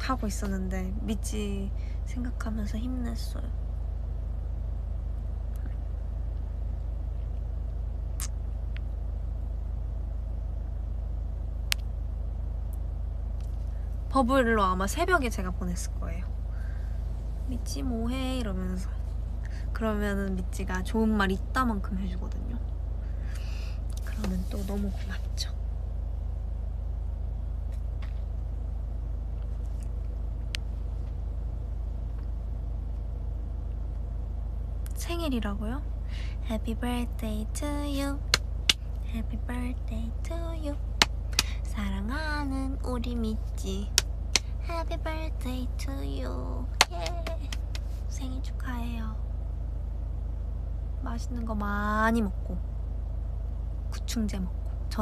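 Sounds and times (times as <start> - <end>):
low rumble inside car cabin: 0.0 - 55.0.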